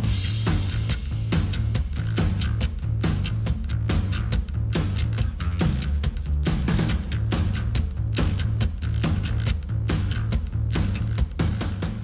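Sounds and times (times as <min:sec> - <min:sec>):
music with bass and drum beat: 0:00.0 - 0:12.0.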